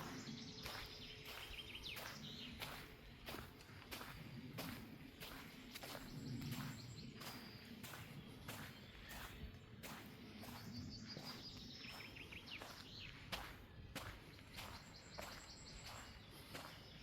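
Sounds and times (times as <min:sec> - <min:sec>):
footsteps on forest floor: 0:00.0 - 0:17.0
songbirds calling: 0:00.0 - 0:17.0.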